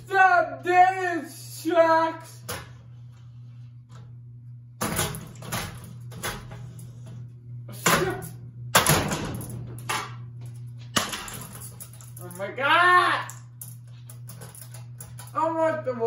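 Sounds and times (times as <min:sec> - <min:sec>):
steady fan hum: 0:00.0 - 0:16.0.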